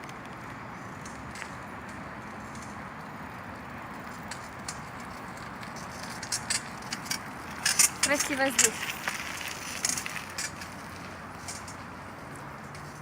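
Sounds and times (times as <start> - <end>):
bicycle clicks and creaks: 0.0 - 13.0
outdoor noise rush: 0.0 - 13.0
bicycle squeaking: 0.8 - 13.0.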